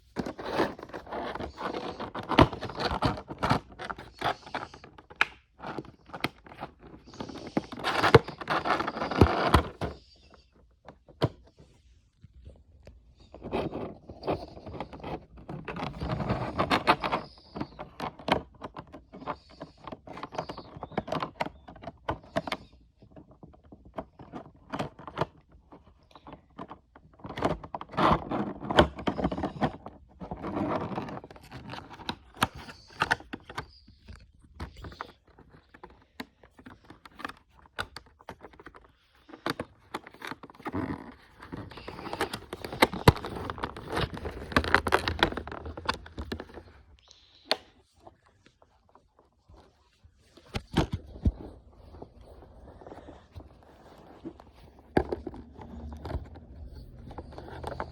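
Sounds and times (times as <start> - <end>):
cardboard and plastic rustling: 0.0 - 57.9.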